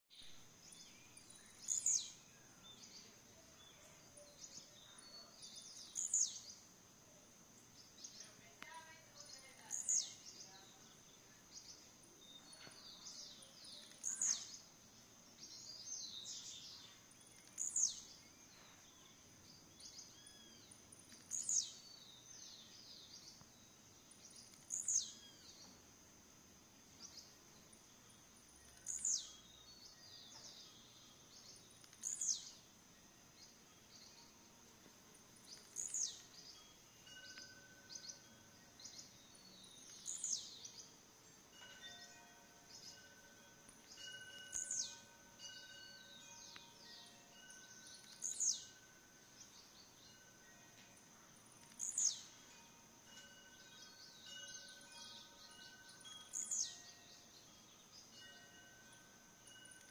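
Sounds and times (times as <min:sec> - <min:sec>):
faint bird chirps: 0:00.1 - 0:25.9, 0:26.8 - 0:59.9
faint high hiss: 0:00.1 - 0:59.9.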